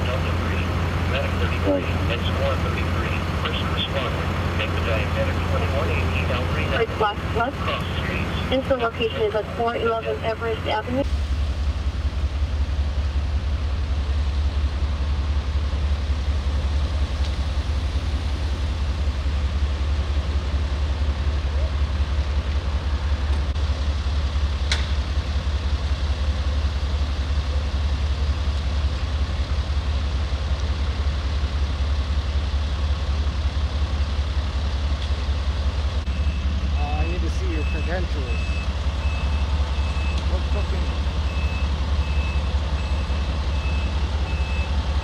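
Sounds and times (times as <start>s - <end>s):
vehicle engines idling: 0.0s - 45.0s.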